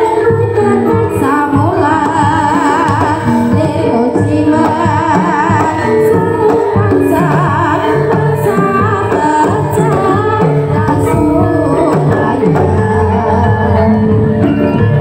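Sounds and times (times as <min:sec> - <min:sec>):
woman singing with vibrato: 0:00.0 - 0:15.0
metallophone tones: 0:02.6 - 0:15.0.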